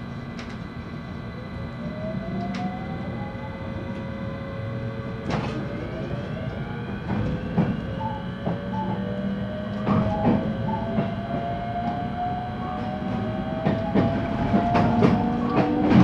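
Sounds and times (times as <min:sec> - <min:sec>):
low train running rumble: 0:00.0 - 0:16.0
train motor whine rising: 0:00.1 - 0:16.0.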